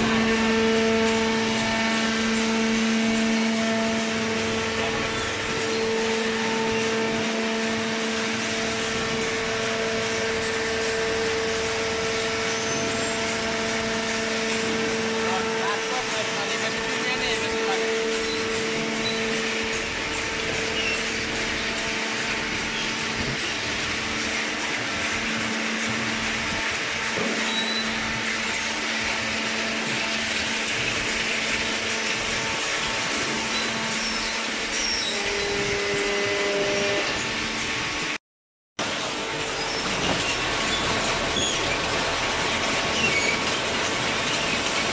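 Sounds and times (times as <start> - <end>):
baling machine whirring: 0.0 - 38.2, 38.8 - 44.9
hydraulic baler motor drone: 0.0 - 38.2.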